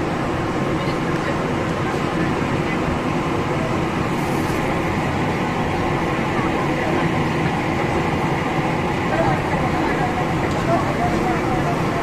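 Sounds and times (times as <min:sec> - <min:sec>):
ferry engines rumbling: 0:00.0 - 0:12.0
wind: 0:00.0 - 0:12.0.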